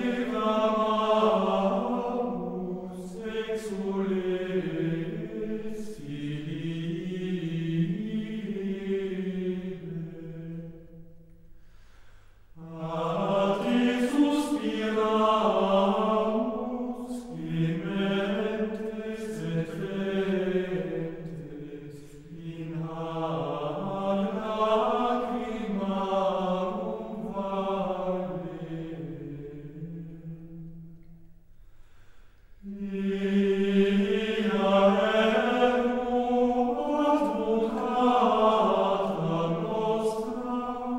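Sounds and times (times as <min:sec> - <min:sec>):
choir chanting in unison: 0:00.0 - 0:11.1, 0:12.6 - 0:30.9, 0:32.6 - 0:40.9.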